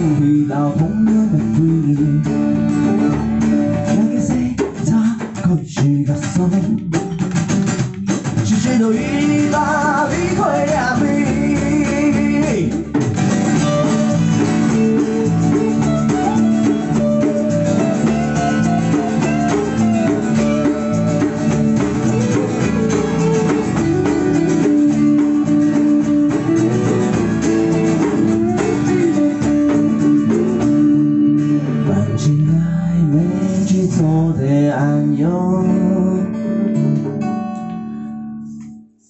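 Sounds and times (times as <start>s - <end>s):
bass line: 0.0s - 37.5s
electric guitar melody: 0.0s - 39.0s
strummed acoustic guitar: 0.0s - 39.0s.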